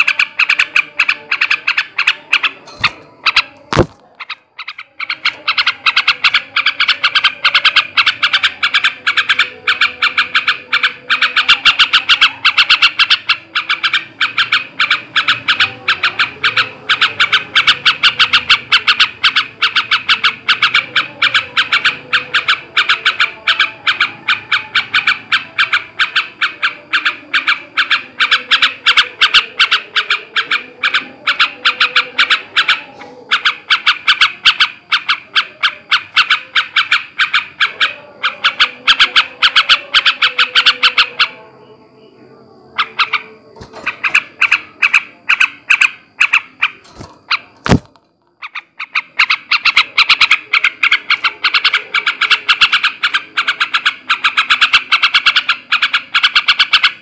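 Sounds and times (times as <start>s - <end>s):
bird chattering calls: 0.0s - 57.0s.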